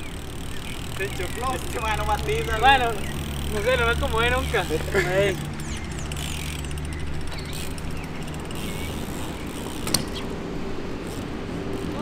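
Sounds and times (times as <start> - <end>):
bike rolling on concrete: 0.0 - 12.0.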